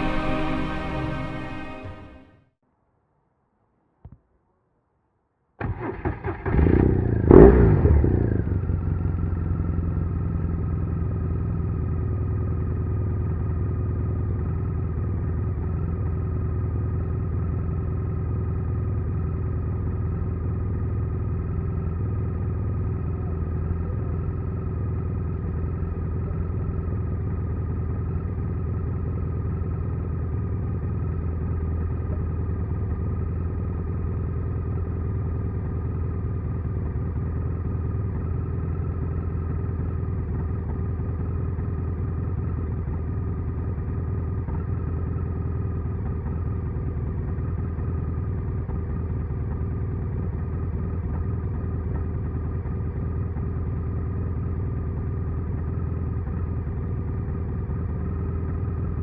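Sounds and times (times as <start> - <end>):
motorcycle engine starting and idling: 5.6 - 59.0.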